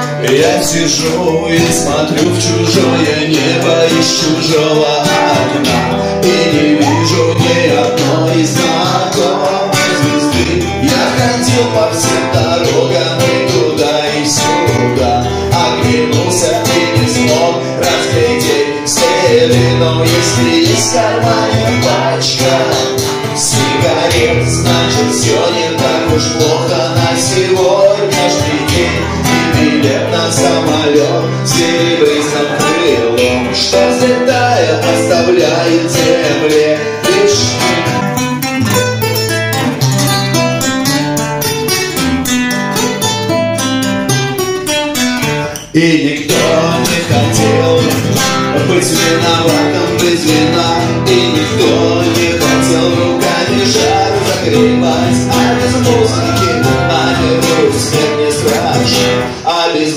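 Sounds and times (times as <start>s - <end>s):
voices singing: 0.0s - 38.0s, 45.6s - 59.9s
bass line: 0.0s - 40.8s, 46.0s - 59.3s
guitar: 0.0s - 59.9s.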